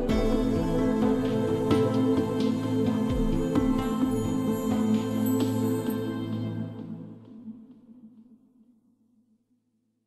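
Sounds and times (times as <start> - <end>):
calm new-age music: 0.0 - 9.3.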